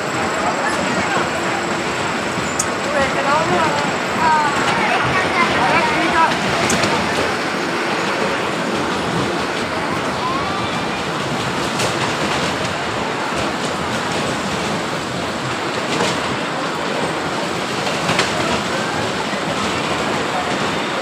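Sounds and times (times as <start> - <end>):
amusement ride mechanical rumble: 0.0 - 21.0.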